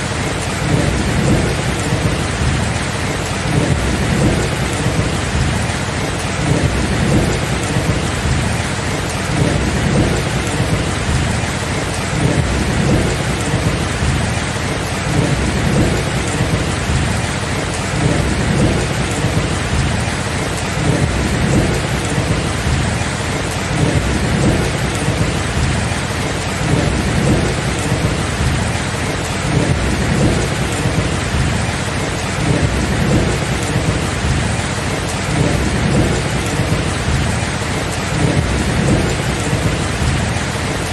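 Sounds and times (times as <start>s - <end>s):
rolling thunder: 0.0s - 40.9s
steady rain: 0.0s - 40.9s.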